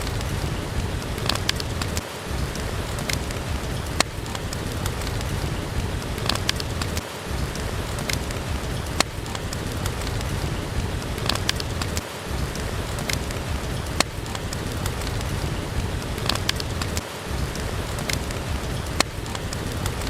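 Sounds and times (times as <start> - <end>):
steady rain: 0.0 - 20.0
wood fire crackling and popping: 0.0 - 20.0.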